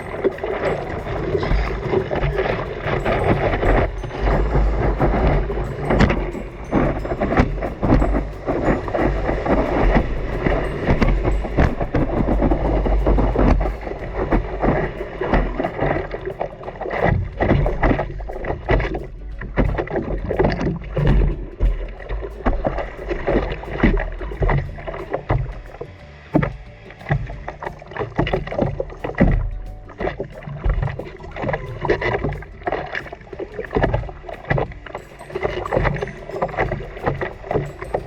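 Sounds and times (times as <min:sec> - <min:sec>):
seawater splashing: 0:00.0 - 0:38.0
wind buffeting microphone: 0:00.0 - 0:38.0.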